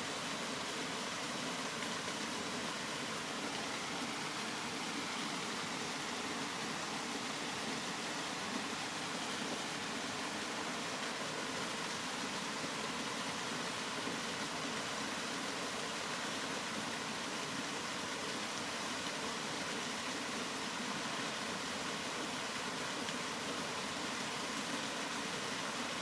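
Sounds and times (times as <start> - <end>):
steady rain hiss: 0.0 - 26.0.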